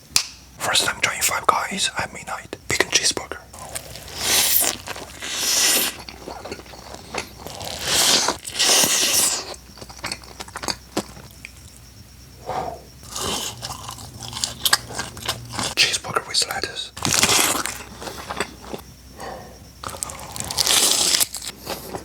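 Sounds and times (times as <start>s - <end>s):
crunchy bites of food: 2.8s - 22.0s
wet chewing: 3.5s - 22.0s.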